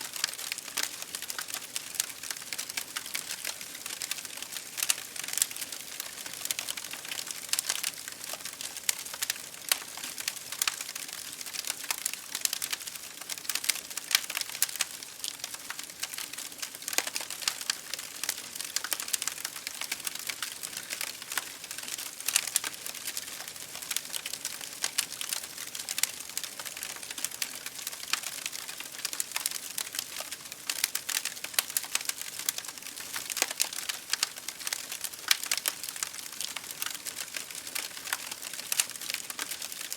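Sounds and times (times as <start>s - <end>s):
wood fire crackling: 0.0s - 39.9s
rain on window glass: 0.1s - 39.9s.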